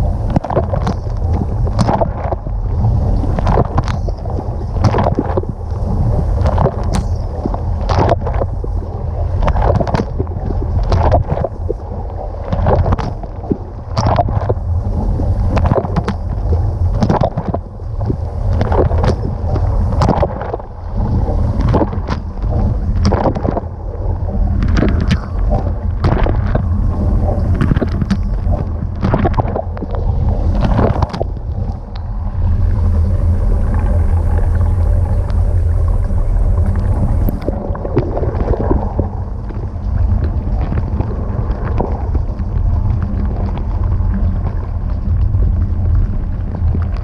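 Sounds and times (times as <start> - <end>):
low pump hum: 0.0 - 47.0
water spraying and splashing: 0.0 - 47.0.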